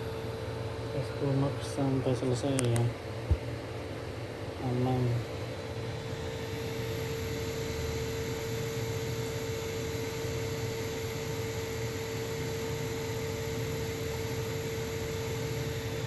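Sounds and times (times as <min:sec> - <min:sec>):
computer cooling fans whirring: 0:00.0 - 0:16.0.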